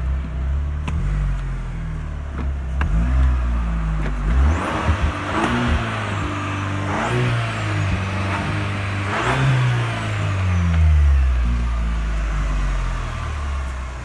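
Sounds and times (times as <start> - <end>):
car exhaust idling and revving: 0.0 - 14.0.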